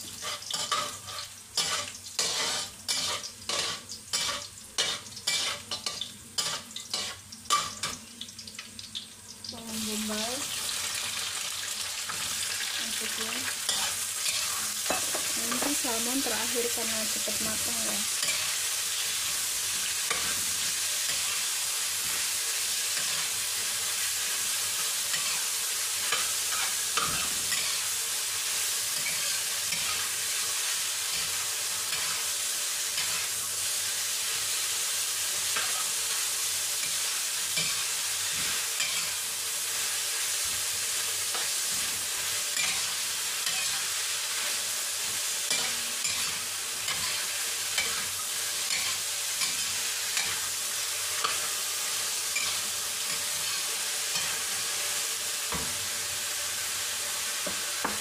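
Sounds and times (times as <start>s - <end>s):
spatula scraping a wok: 0.0s - 8.0s, 12.1s - 55.7s
vegetables sizzling in hot oil: 0.0s - 58.0s.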